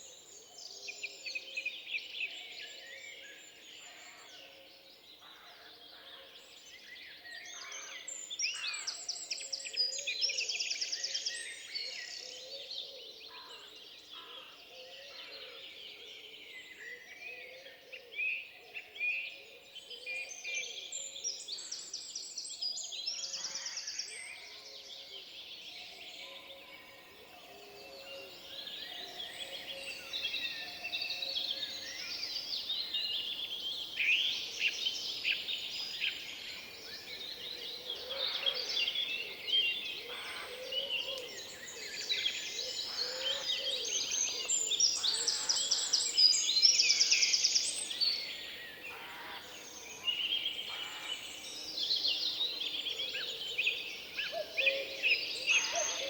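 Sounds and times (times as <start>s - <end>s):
songbirds singing and calling: 0.0s - 56.0s.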